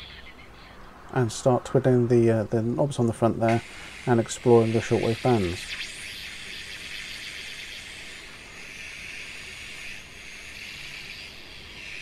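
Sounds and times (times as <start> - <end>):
shortwave static hiss: 0.0 - 12.0.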